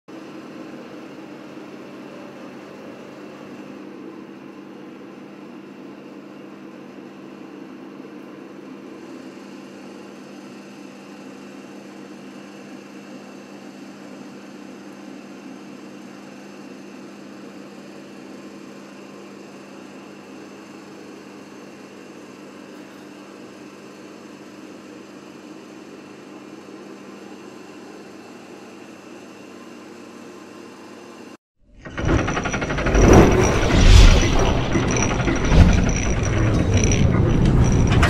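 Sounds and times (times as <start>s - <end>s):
steady mechanical hum: 0.1s - 38.0s.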